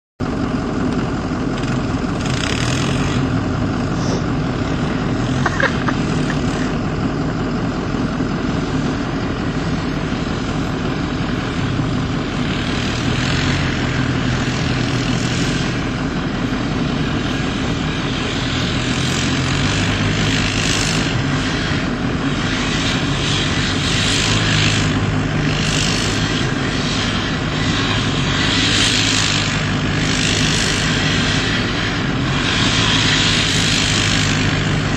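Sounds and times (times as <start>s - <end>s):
atv engine running: 0.2s - 34.9s.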